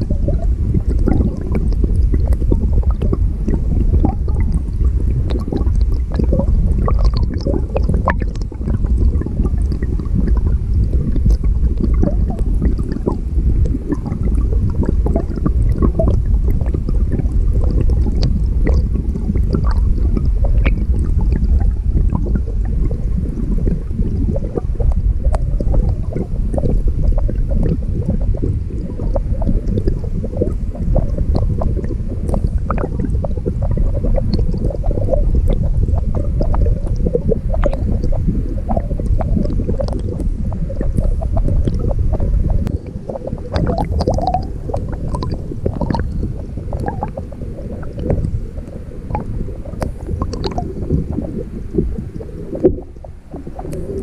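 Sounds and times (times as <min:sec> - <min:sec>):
underwater rushing stream: 0:00.0 - 0:54.0.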